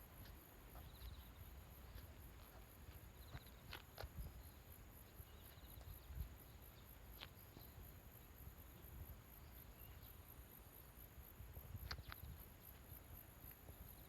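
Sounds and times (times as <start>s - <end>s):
faint insects chirping: 0.0s - 14.0s.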